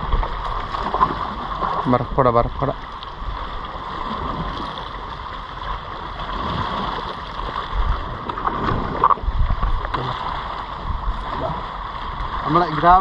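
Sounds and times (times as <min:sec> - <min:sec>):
sea water washing: 0:00.0 - 0:13.0
wind on microphone: 0:00.0 - 0:13.0.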